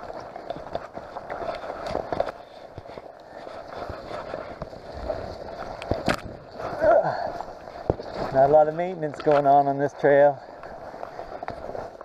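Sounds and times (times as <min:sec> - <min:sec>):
footsteps on forest trail: 0:00.0 - 0:12.0.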